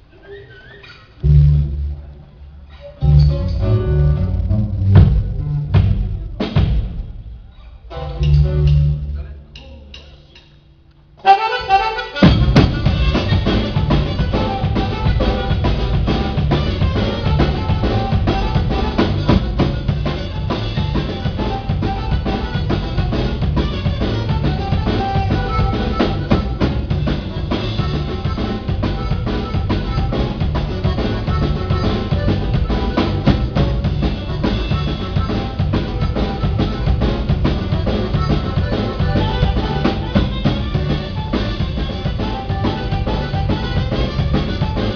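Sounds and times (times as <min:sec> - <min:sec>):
live band playing: 0:00.8 - 0:44.9
bass drum and snare beat: 0:03.1 - 0:09.2, 0:12.2 - 0:44.9.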